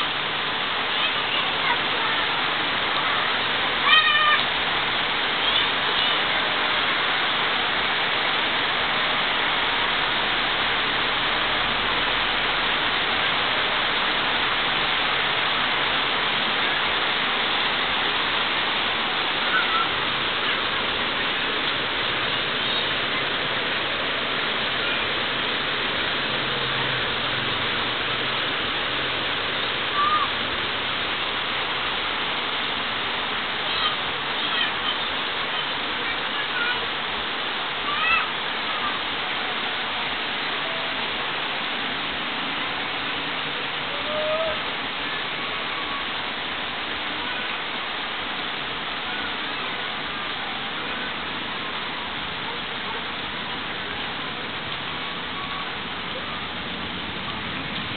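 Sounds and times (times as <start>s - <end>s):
steady rain hissing: 0.0s - 57.9s.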